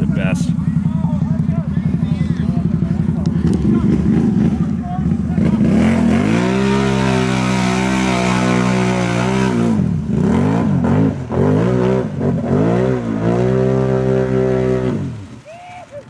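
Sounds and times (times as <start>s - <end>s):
atv engine revving: 0.0s - 15.4s.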